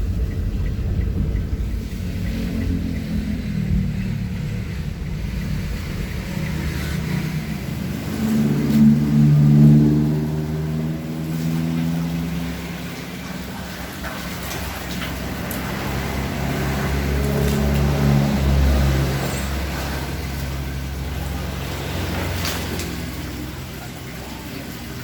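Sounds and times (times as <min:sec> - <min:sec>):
louder engine passing: 0:00.0 - 0:25.0
vehicle engine running: 0:00.0 - 0:25.0.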